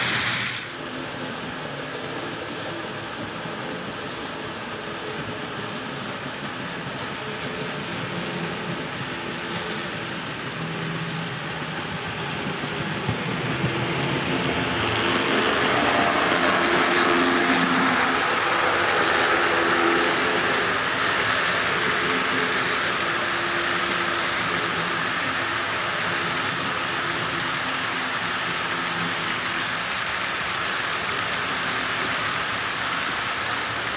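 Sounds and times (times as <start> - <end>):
model train rolling on rails: 0.0 - 33.9.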